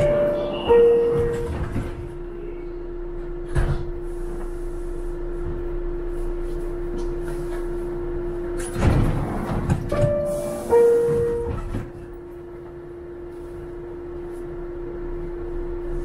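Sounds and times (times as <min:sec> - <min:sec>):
subway car electrical hum: 0:00.0 - 0:16.0.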